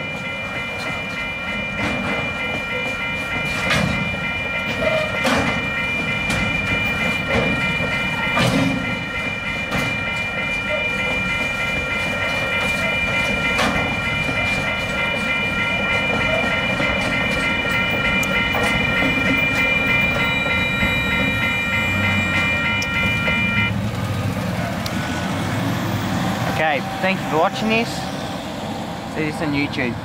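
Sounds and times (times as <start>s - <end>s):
level crossing warning bell: 0.0s - 23.9s, 24.6s - 30.0s
freight train rumbling past: 0.0s - 30.0s.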